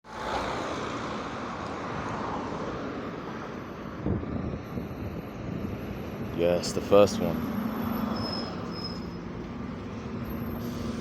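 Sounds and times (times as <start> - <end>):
vehicle passing with road noise: 0.1 - 11.0.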